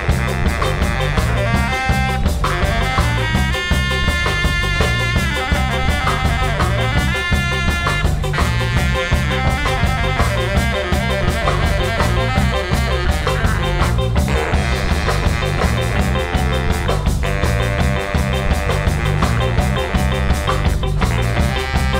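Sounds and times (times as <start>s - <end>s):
bass line: 0.0s - 21.9s
drums: 0.0s - 21.9s
guitar: 0.0s - 21.9s
horns carrying melody: 0.0s - 21.9s.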